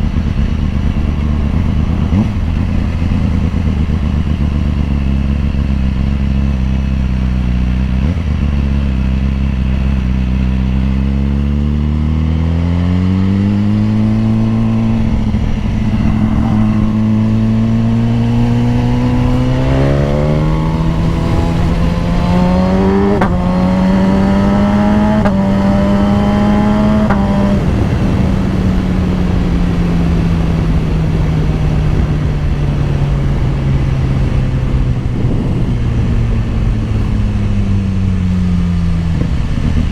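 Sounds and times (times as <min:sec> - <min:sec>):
motorcycle engine accelerating: 0:00.0 - 0:39.9
motorcycle upshifts: 0:00.0 - 0:39.9.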